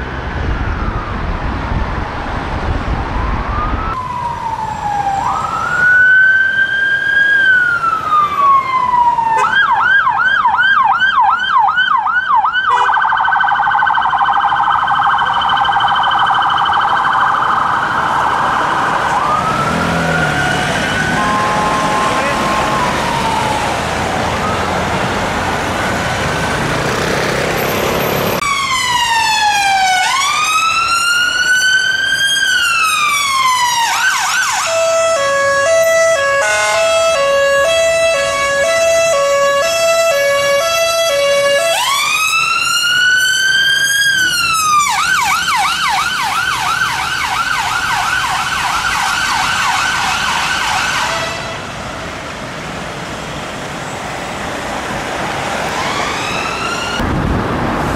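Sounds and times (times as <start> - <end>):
ambulance siren: 0.0 - 57.9
street traffic: 0.0 - 57.9.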